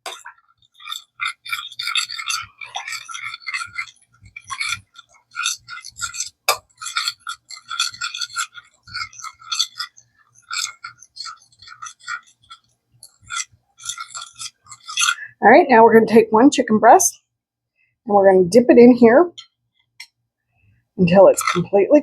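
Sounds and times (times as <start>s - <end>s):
utensil stirring in a saucepan: 0.0s - 15.4s, 19.4s - 22.0s.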